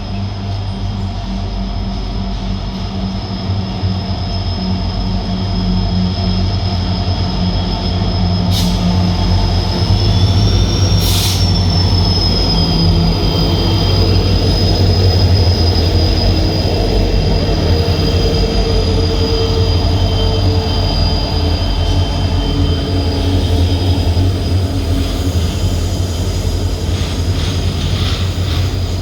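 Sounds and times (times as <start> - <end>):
diesel locomotive engine drone: 0.0 - 29.0
high-pitched wheel squeal: 2.7 - 29.0.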